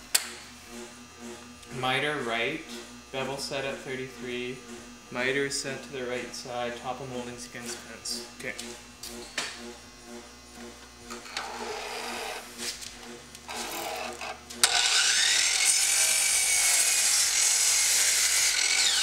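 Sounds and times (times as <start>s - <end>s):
miter saw whine: 0.2s - 19.0s
saw blade cutting wood: 0.2s - 19.0s.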